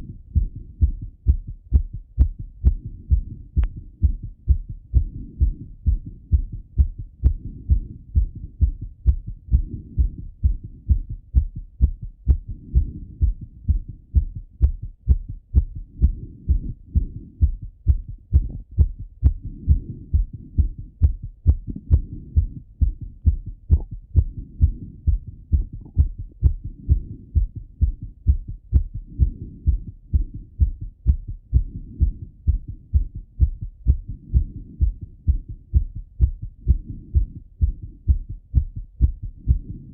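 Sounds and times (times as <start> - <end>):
fast heartbeat through stethoscope: 0.0 - 39.9.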